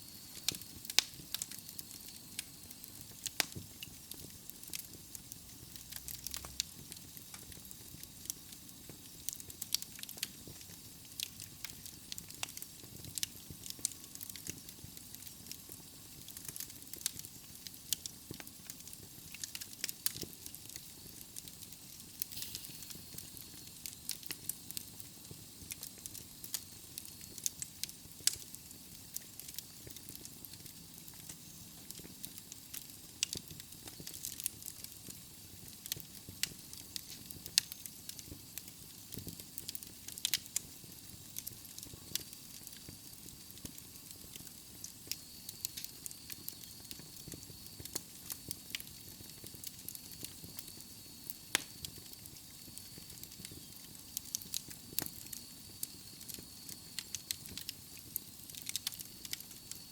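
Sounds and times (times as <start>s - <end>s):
fire hissing: 0.0s - 59.9s
logs crackling and popping: 0.2s - 59.9s.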